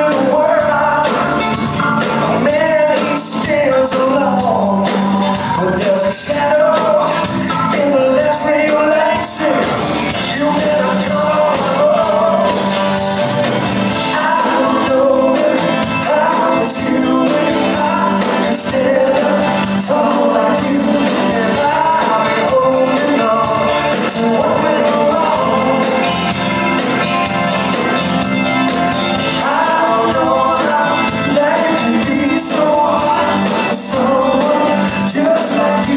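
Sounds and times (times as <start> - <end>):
person singing: 0.0 - 27.2, 29.0 - 35.9
live blues-rock band: 0.0 - 35.9.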